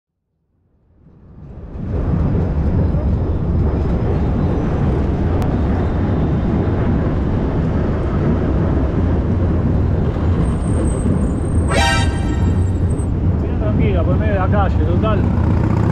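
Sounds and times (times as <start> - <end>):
wind rush on microphone: 0.7 - 15.9
city traffic noise: 1.4 - 15.9.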